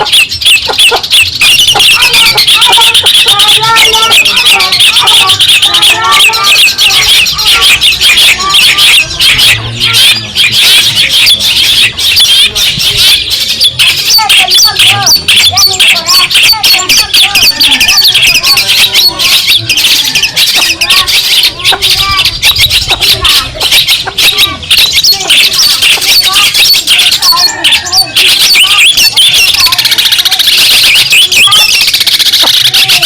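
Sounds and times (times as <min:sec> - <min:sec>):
shrike singing chattering notes: 0:00.0 - 0:33.0.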